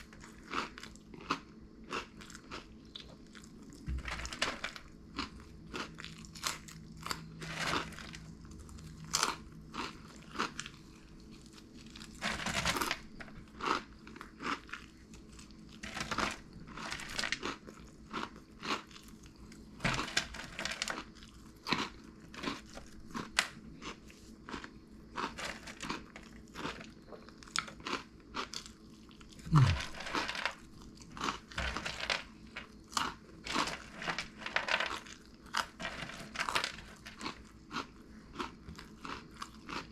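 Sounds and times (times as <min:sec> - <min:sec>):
crunchy snack chewing: 0:00.0 - 0:39.9.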